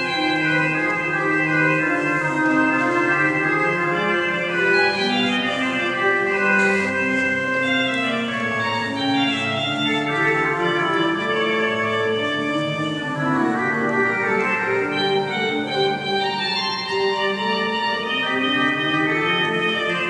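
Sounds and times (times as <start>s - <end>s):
pipe organ playing chords: 0.0s - 20.0s.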